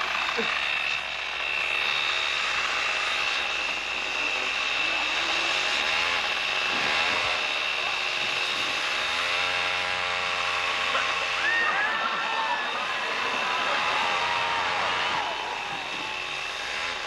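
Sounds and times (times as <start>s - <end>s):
chainsaws buzzing: 0.0s - 17.0s.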